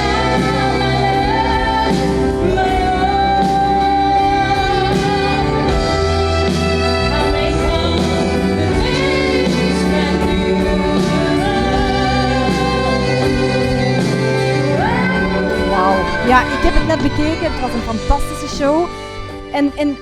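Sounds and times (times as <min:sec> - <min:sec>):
instrumental backing music: 0:00.0 - 0:20.0
person singing: 0:00.0 - 0:20.0.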